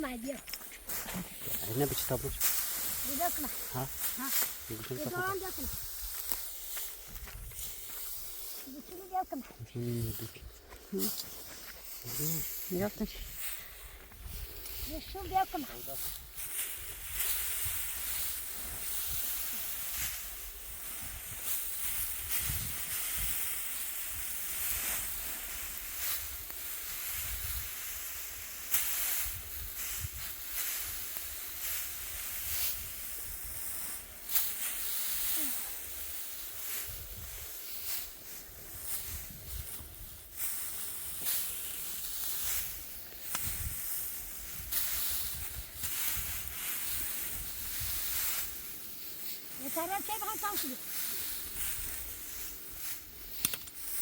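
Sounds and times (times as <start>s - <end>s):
dry wheat stalks rustling: 0.0s - 54.0s.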